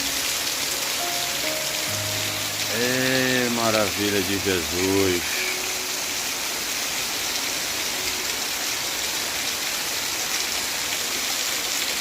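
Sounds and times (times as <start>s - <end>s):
heavy rain on the ground: 0.0s - 12.0s.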